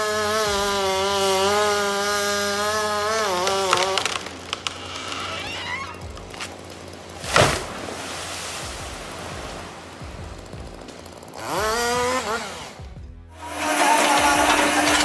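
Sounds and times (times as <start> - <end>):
motor saw revving and running: 0.0 - 15.0.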